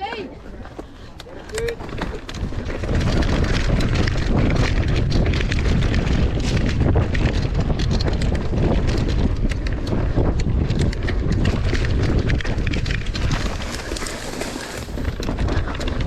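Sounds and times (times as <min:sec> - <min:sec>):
wind buffeting microphone: 0:00.0 - 0:16.0
bike rattling over bumps: 0:00.4 - 0:16.0.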